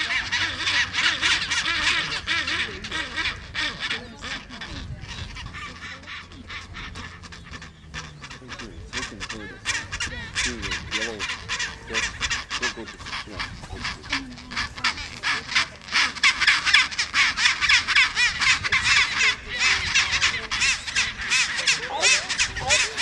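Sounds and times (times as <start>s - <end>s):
penguins calling: 0.0s - 23.0s.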